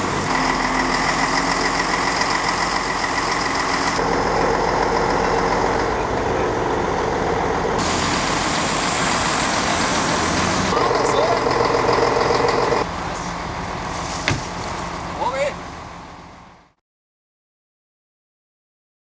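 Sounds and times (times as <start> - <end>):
heavy truck engine: 0.0 - 16.8
vehicle engines idling: 0.0 - 16.8.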